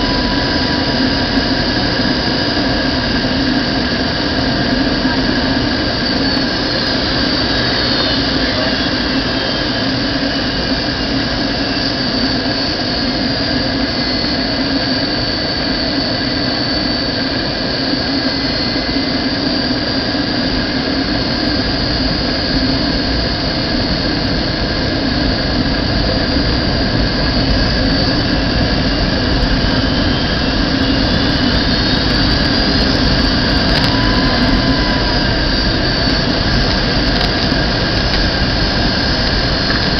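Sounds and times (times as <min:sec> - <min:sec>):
high engine whine: 0:00.0 - 0:39.9
jet engine and airflow roar: 0:00.0 - 0:39.9.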